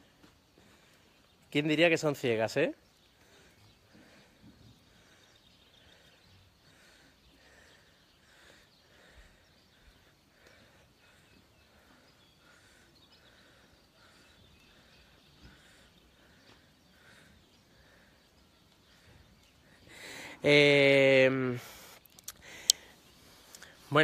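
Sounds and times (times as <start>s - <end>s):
faint rural ambience: 0.0s - 24.0s.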